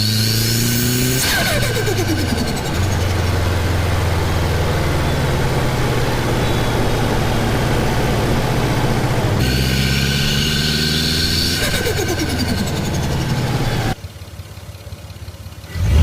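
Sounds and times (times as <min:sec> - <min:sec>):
car engine idling roughly: 0:01.2 - 0:09.7, 0:11.1 - 0:16.0.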